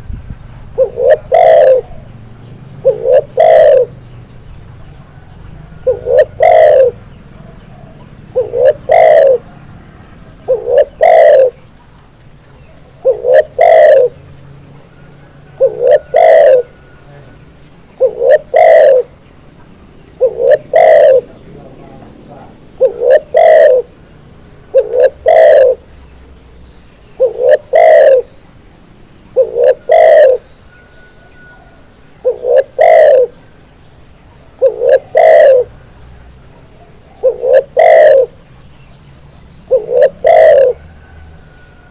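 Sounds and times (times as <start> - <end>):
dove cooing: 0.8 - 4.0, 4.7 - 11.8, 12.5 - 19.2, 20.0 - 25.9, 27.2 - 28.4, 29.3 - 33.6, 34.3 - 35.9, 36.5 - 38.5, 39.7 - 41.9.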